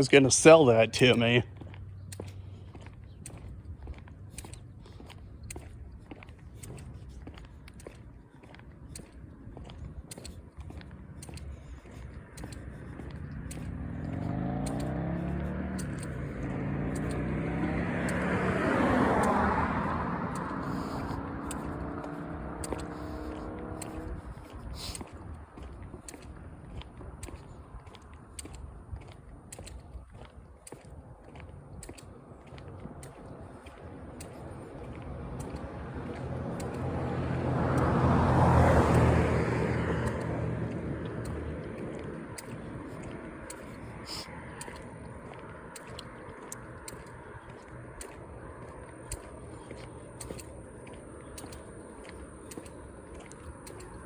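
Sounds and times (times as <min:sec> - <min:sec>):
car passing by: 0:09.6 - 0:29.9, 0:30.9 - 0:54.0.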